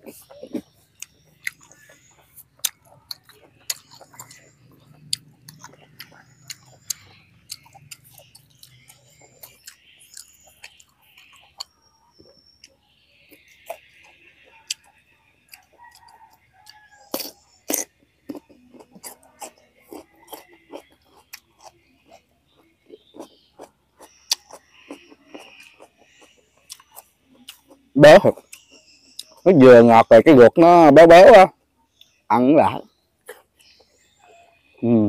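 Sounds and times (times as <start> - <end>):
close-up chewing: 0.0 - 29.5.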